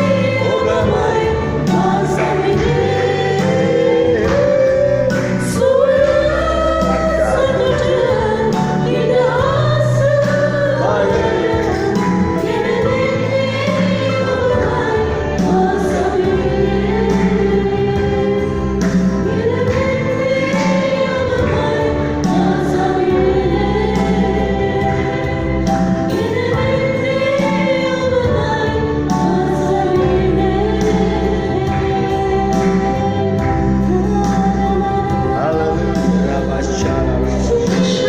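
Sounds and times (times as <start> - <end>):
gospel choir singing: 0.0 - 38.0.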